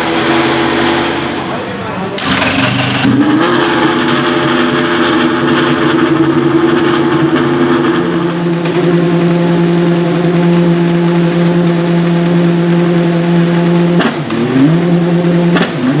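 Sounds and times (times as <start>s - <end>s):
race car engine running: 0.0s - 16.0s.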